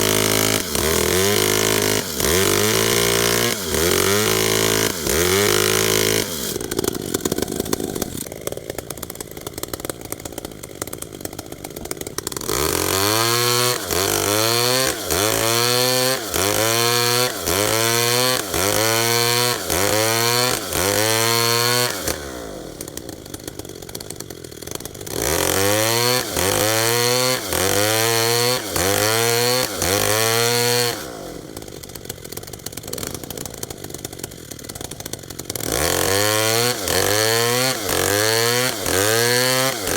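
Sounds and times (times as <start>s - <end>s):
chainsaw revving in bursts: 0.0s - 39.9s.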